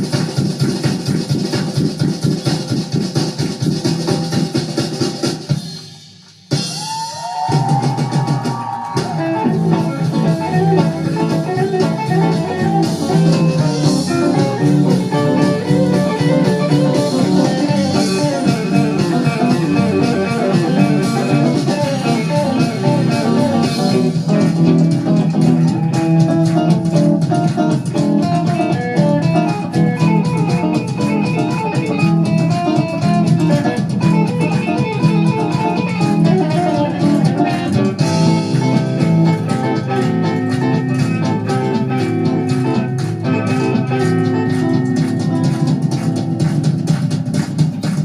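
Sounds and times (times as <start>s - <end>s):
instrumental rock music: 0.0s - 48.0s.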